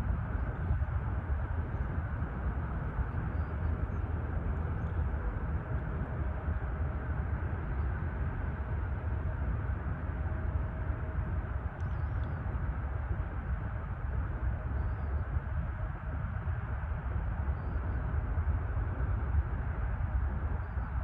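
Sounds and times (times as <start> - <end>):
faint thin whine: 0.0 - 21.0.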